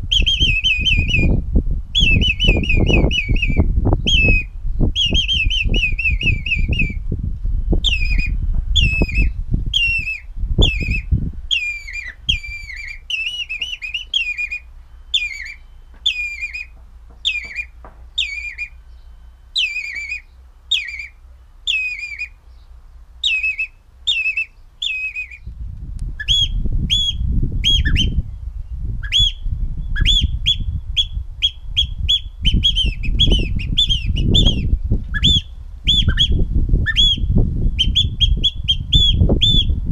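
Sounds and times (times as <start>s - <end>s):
finger whistling bird calls: 0.1s - 1.4s, 2.0s - 7.0s, 7.7s - 22.4s, 23.2s - 28.4s, 29.0s - 39.8s.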